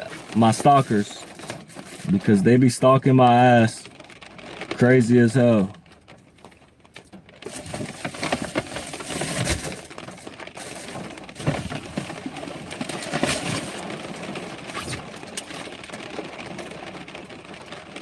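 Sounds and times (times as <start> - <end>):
objects rustling and clicking: 0.0 - 2.4, 3.7 - 16.0.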